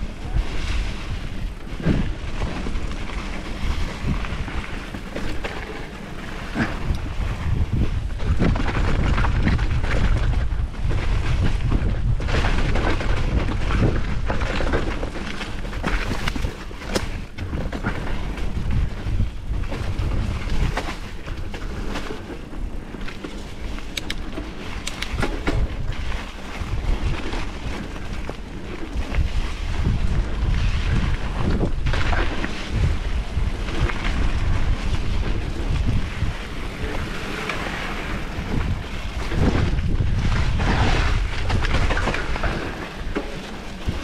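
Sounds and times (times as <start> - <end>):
bike rattling over trail: 0.0 - 44.0
bike tyre noise: 0.0 - 44.0
wind buffeting microphone: 0.0 - 44.0.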